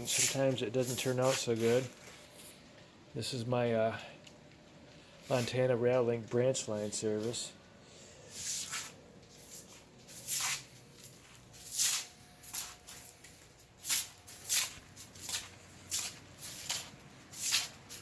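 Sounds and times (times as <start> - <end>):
shuffling and rustling scuffs: 0.0 - 2.7, 5.2 - 7.6, 8.3 - 18.0
faint steady hum: 0.0 - 18.0.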